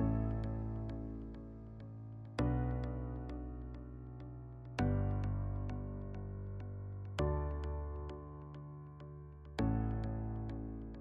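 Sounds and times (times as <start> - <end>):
sustained keyboard chord: 0.0 - 11.0.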